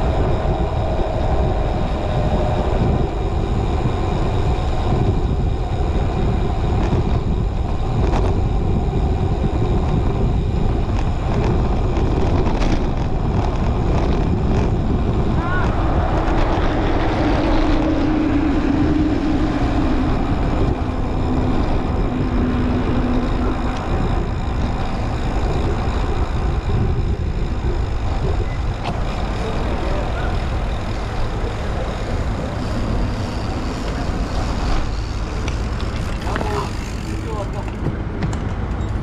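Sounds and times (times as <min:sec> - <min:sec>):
passing motor vehicle drone: 0:00.0 - 0:39.0
wind rushing over microphone: 0:00.0 - 0:39.0.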